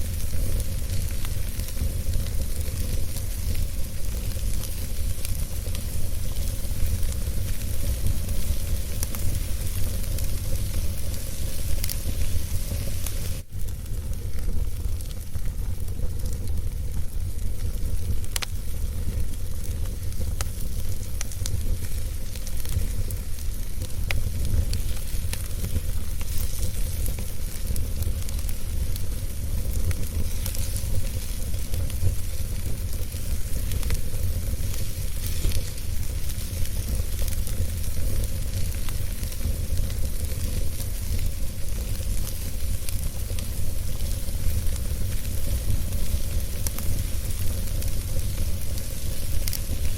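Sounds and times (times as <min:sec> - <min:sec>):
wood fire crackling and hissing: 0:00.0 - 0:49.9.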